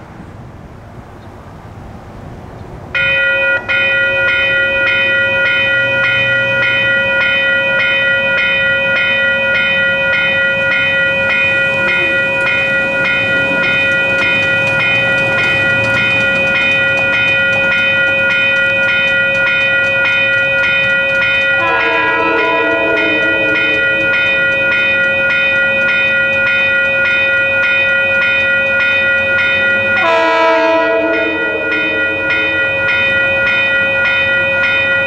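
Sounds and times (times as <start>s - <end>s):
crossing warning bell ringing: 2.9s - 35.0s.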